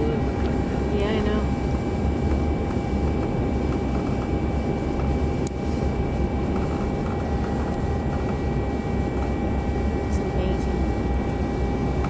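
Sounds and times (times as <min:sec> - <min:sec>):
airliner engine rumble: 0:00.0 - 0:12.0
faint steady whine: 0:00.0 - 0:12.0.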